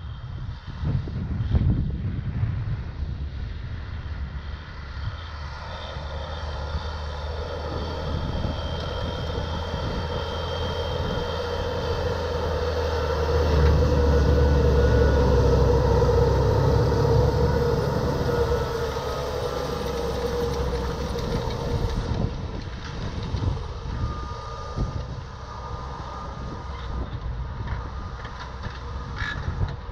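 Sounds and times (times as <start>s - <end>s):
tractor engine running under load: 0.0s - 29.9s.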